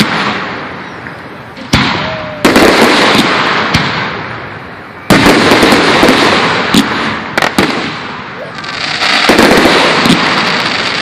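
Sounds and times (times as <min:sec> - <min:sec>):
fireworks bursting with bangs: 0:00.0 - 0:11.0
fireworks crackling hiss: 0:00.0 - 0:11.0.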